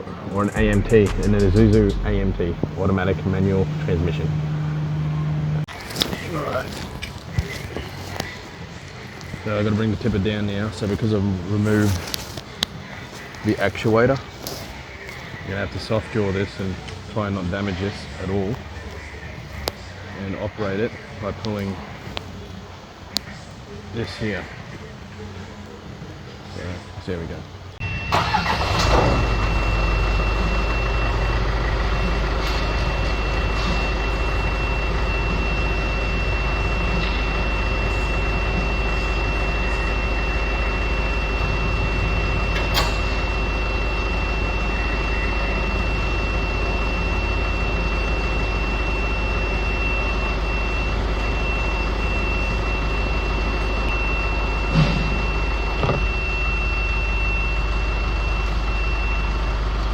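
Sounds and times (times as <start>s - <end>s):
hydraulic pump whine: 0.0s - 19.9s, 27.8s - 59.9s
diesel truck engine droning: 0.0s - 23.5s, 27.8s - 59.9s.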